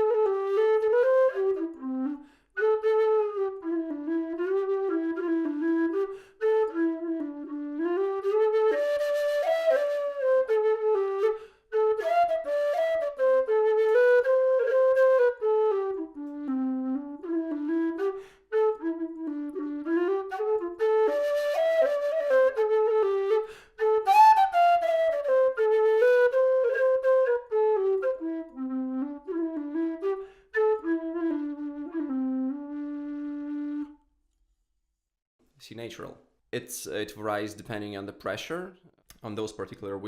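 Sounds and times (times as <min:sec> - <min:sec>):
low whistle playing a tune: 0:00.0 - 0:34.1.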